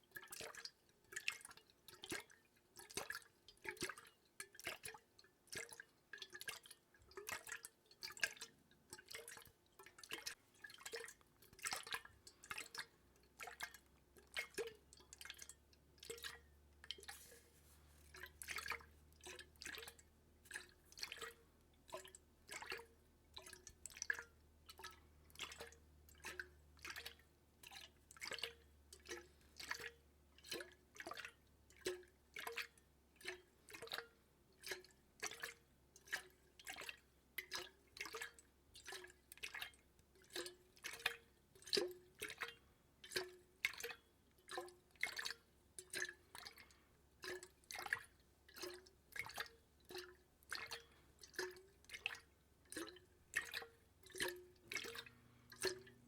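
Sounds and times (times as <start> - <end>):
water dripping: 0.1 - 56.0.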